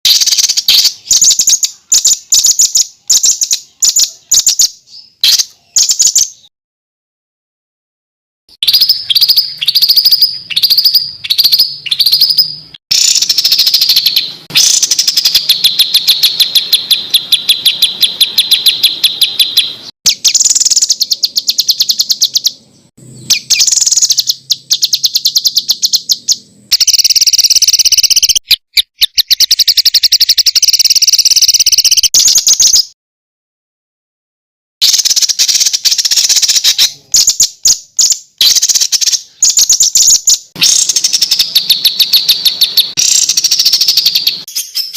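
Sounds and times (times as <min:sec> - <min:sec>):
harsh rattling bird trill: 0:00.0 - 0:06.5, 0:08.5 - 0:33.0, 0:34.8 - 0:44.9
bird trills: 0:00.1 - 0:06.5, 0:08.6 - 0:33.0, 0:34.8 - 0:44.9
songbird repeated notes: 0:00.1 - 0:06.5, 0:08.5 - 0:32.9, 0:34.8 - 0:44.9.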